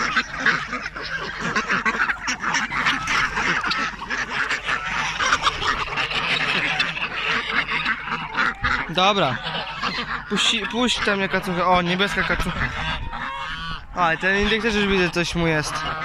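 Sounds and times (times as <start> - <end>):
ducks quacking: 0.0 - 16.0
poultry calling: 0.0 - 16.0.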